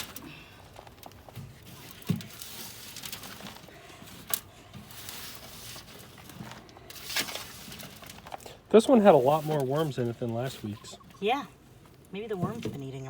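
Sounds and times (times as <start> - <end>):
soil rustling and scraping: 0.0 - 11.4.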